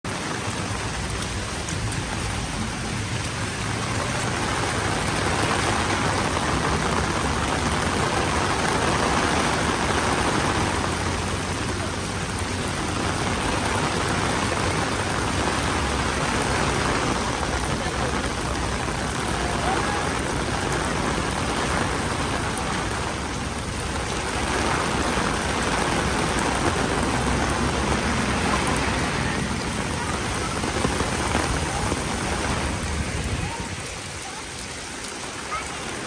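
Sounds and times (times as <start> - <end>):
rain splashing on hard surfaces: 0.0 - 36.0.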